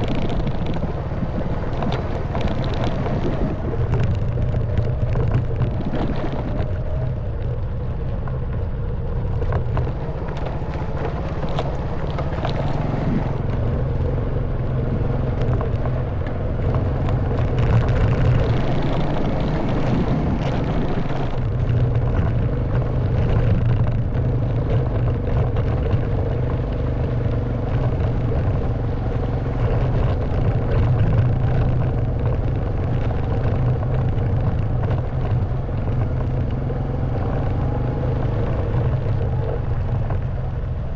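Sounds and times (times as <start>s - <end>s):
motorbike engine running: 0.0s - 40.9s
wind noise: 0.0s - 40.9s.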